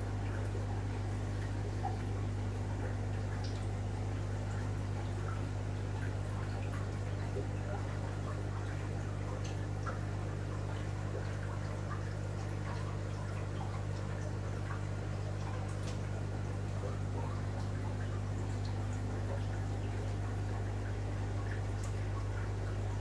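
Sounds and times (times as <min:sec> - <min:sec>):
aquarium pump humming: 0:00.0 - 0:23.0
trickling water: 0:00.0 - 0:23.0.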